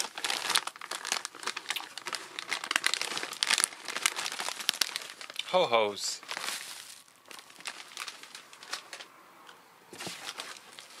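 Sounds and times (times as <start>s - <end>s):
plastic snack bags crinkling: 0.0s - 9.1s, 10.0s - 11.0s.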